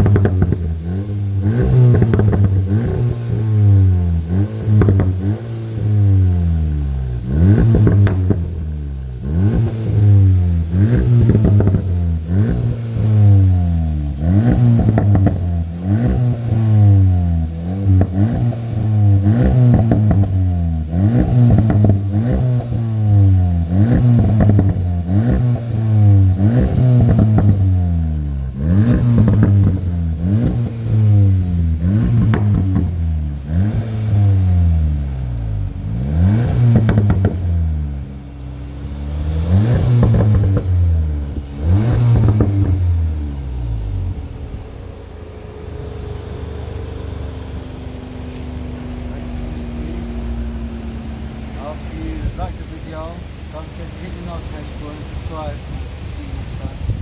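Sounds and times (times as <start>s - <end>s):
car engine revving: 0.0s - 57.0s
exhaust crackles and pops: 0.0s - 57.0s.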